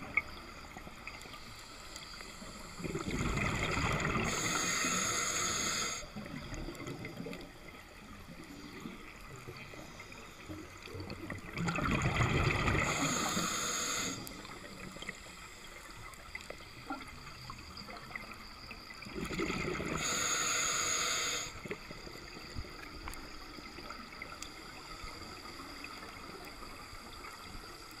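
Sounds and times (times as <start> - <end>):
underwater exhaled bubbles: 0.0 - 28.0.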